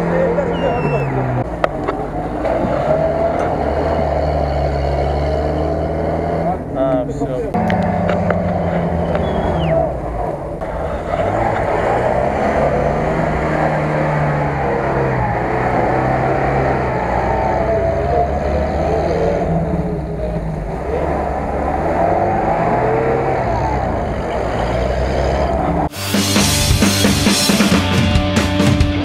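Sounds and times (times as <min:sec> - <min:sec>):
off-road vehicle engine revving: 0:00.0 - 0:28.4.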